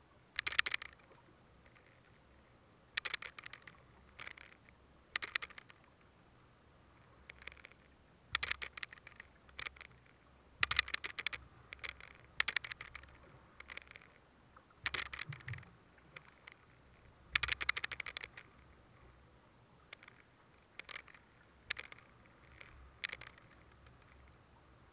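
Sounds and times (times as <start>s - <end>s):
faint steady background noise: 0.0s - 24.9s
rapid crackling clicks: 0.4s - 2.1s, 3.0s - 6.0s, 7.1s - 18.8s, 19.9s - 24.4s.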